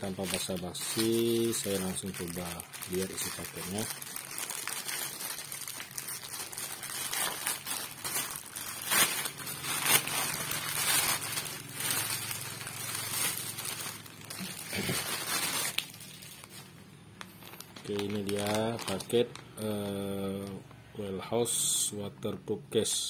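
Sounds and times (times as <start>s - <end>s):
plastic bag crinkling and tearing: 0.0s - 20.6s.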